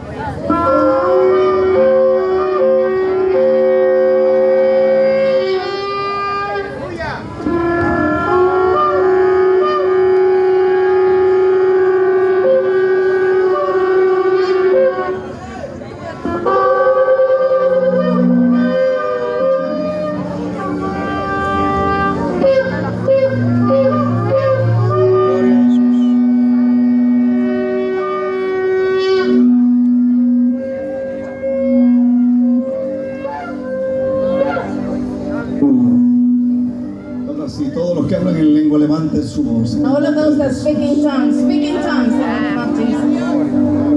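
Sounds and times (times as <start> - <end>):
ram's horns blowing: 0.4 - 37.3, 39.4 - 43.9.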